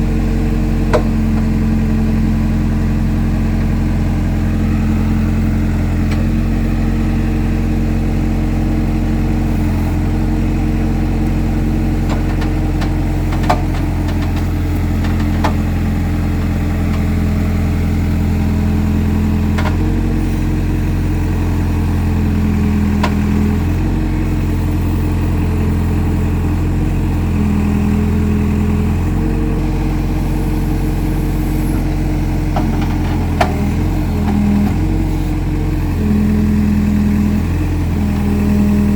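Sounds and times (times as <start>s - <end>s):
digging machine engine running: 0.0s - 38.9s.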